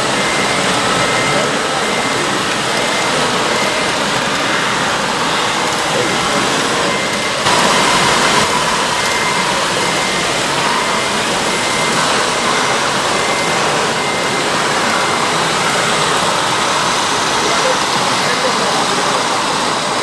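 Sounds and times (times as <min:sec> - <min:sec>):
din of busy hall: 0:00.0 - 0:20.0
model truck engines: 0:00.0 - 0:20.0.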